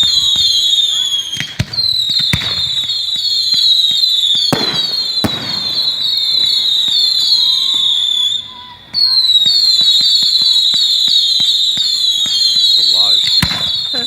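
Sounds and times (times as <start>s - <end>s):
distant fireworks bangs: 0.0s - 14.0s.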